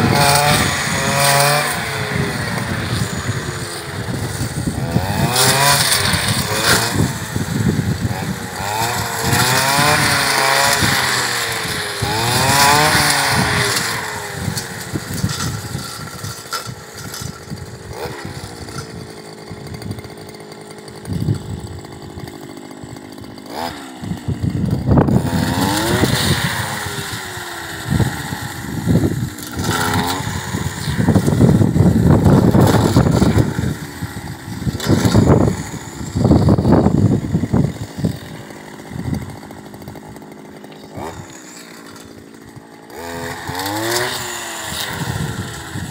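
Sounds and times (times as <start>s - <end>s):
cutting head thrashing grass: 0.0s - 22.8s, 23.4s - 45.9s
brush cutter engine revving: 0.0s - 45.9s.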